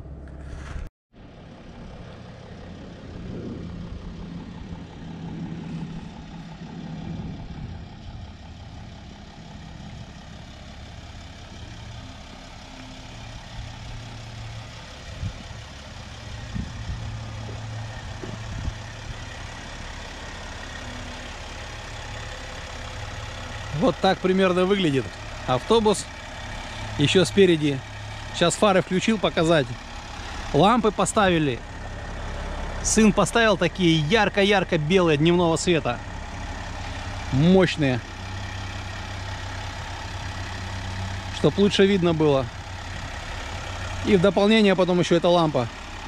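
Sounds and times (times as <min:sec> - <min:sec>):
van engine idling: 0:00.0 - 0:46.0.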